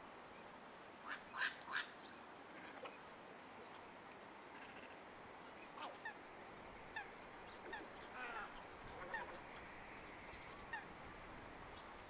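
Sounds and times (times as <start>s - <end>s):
faint bird calls: 1.0s - 12.0s.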